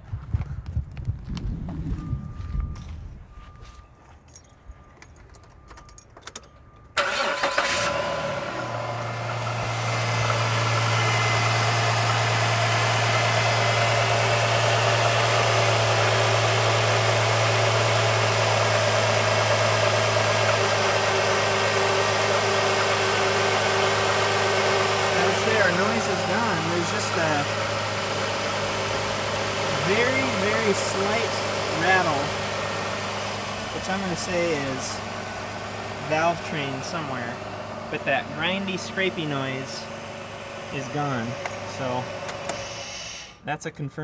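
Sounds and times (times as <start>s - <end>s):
car engine cranking and idling: 0.1s - 43.4s
slight engine rattle: 3.9s - 43.2s.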